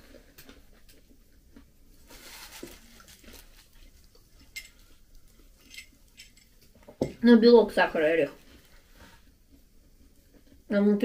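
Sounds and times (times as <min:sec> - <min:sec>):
soft chewing: 0:00.0 - 0:06.9, 0:08.4 - 0:10.7.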